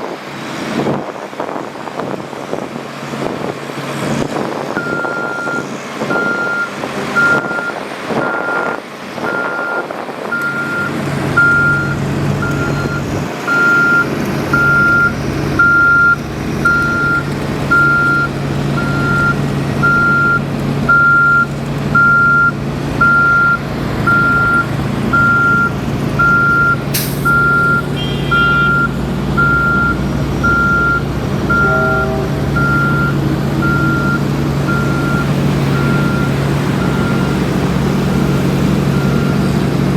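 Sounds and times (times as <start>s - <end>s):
diesel engine running: 0.0s - 39.9s
reversing alarm beeping: 4.8s - 37.4s, 38.0s - 39.6s.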